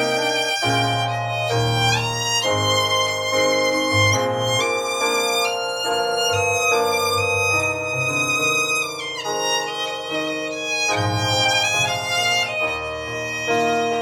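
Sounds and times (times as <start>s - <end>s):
violin melody with accompaniment: 0.0s - 14.0s.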